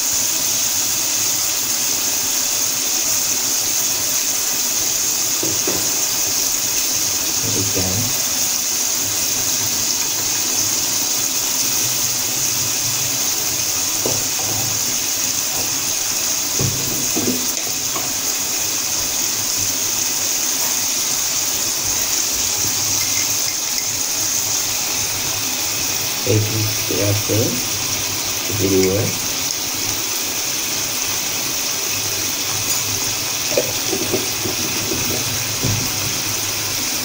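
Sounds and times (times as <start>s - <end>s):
sauce simmering with hiss: 0.0s - 37.0s.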